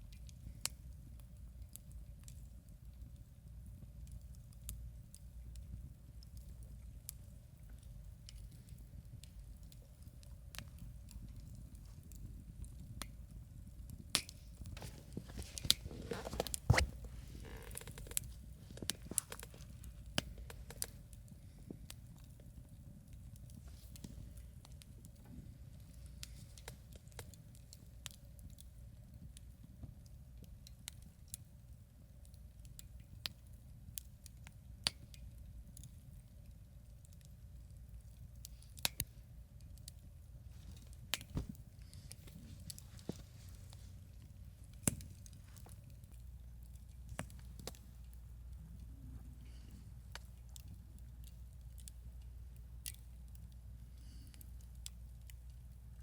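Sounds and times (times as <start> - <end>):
low steady rumble: 0.0 - 56.0
wood campfire crackling: 0.0 - 56.0.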